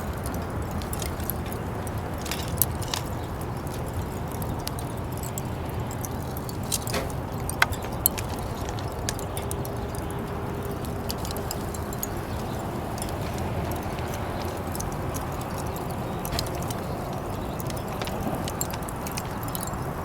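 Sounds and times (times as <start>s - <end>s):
sharp clicks and light clinks: 0.0s - 20.0s.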